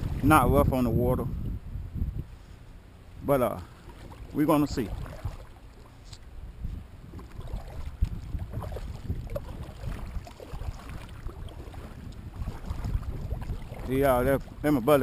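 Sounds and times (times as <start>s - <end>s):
water lapping around kayak: 0.0s - 1.6s, 2.2s - 15.0s
wind buffeting microphone: 0.0s - 2.5s, 3.1s - 15.0s.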